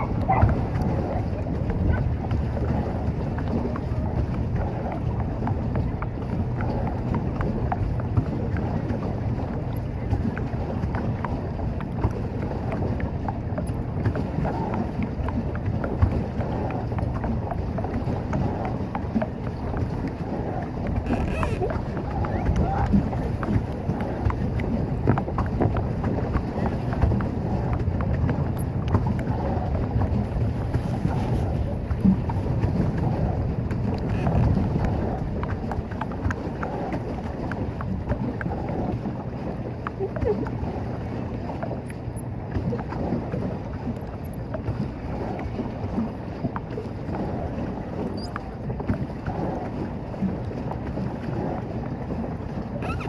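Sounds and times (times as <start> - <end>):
boat knocks and water splashes: 0.0 - 53.0
wind rumble on microphone: 0.0 - 53.0.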